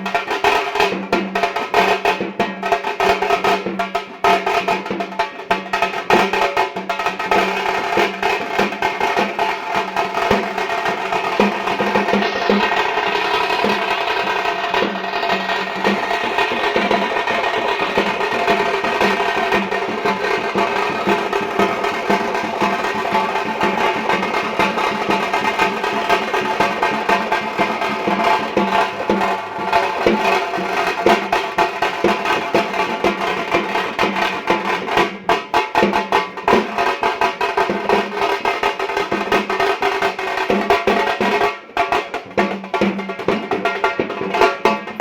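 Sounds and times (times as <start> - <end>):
fast dense drumming: 0.0 - 45.0.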